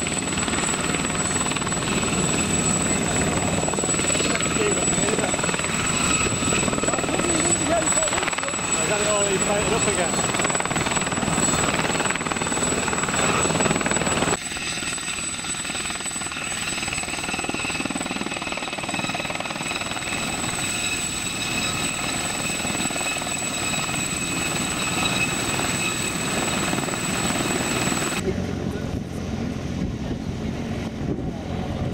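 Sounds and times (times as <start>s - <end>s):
helicopter engine whining: 0.0s - 31.9s.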